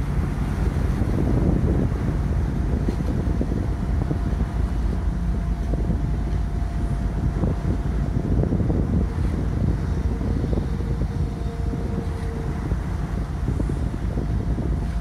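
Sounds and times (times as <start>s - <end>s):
diesel engines rumbling: 0.0s - 15.0s
propellers churning water: 0.0s - 15.0s
wind buffeting microphone: 0.0s - 15.0s.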